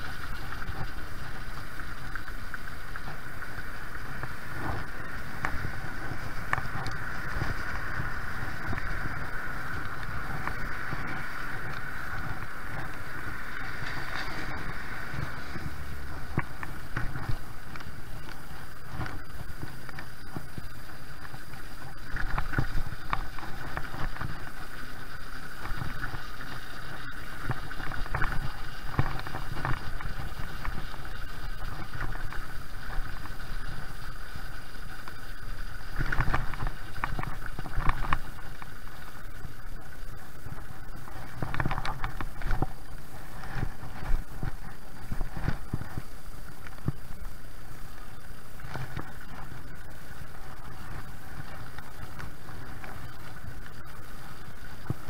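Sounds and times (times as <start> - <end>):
two-stroke bicycle engine running: 0.0 - 55.0
wind rumbling on microphone: 0.0 - 55.0.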